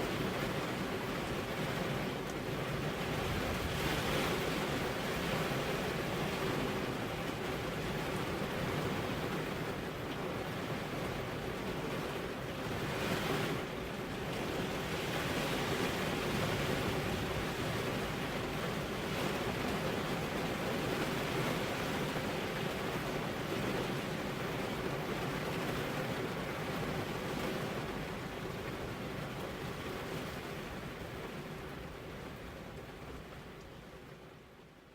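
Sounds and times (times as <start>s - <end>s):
rain on car windows: 0.0s - 34.9s.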